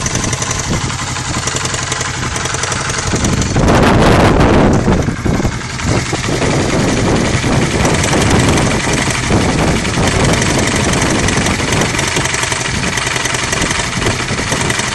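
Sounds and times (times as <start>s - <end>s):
clattering engine rattle: 0.0s - 14.9s
motorcycle engine idling: 0.0s - 14.9s.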